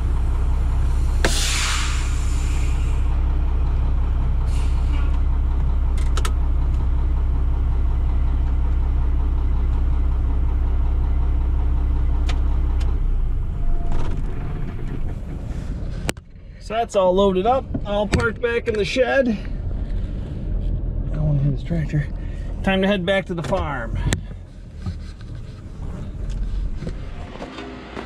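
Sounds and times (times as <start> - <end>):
truck engine idling: 0.0 - 27.4.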